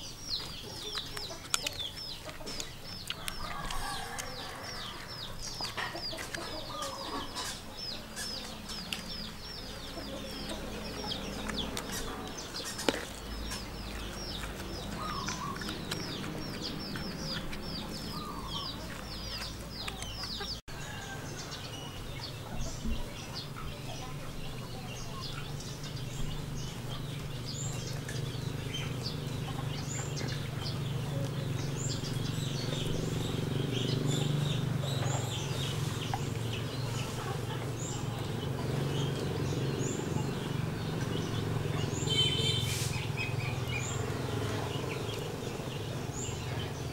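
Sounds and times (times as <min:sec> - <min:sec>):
chickens cheeping: 0:00.0 - 0:46.9
chickens clucking: 0:00.0 - 0:46.9.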